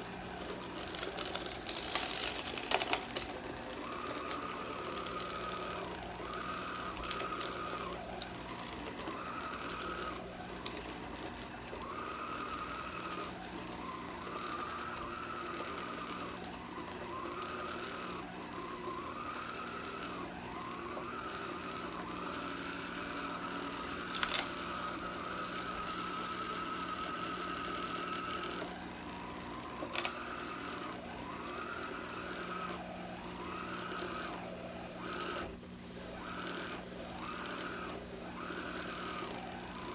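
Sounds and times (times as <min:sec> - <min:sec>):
vacuum motor whining: 0:00.0 - 0:39.9.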